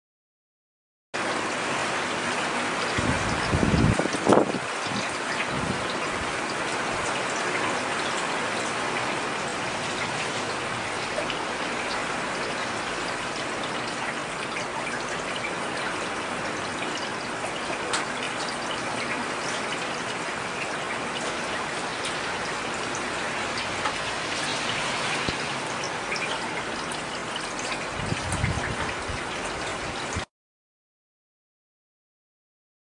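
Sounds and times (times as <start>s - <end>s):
heavy rain falling: 1.2s - 30.3s.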